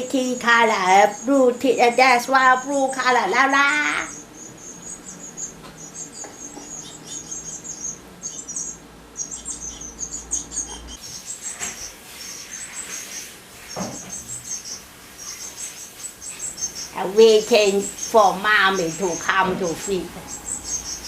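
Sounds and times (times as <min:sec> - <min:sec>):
nestlings cheeping: 0:00.0 - 0:21.0.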